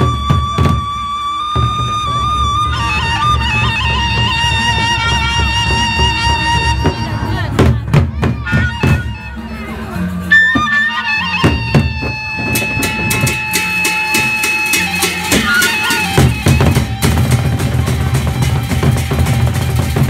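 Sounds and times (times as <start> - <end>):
wind instrument long notes: 0.0 - 7.6, 8.3 - 20.0
barrel drums beating: 0.0 - 20.0.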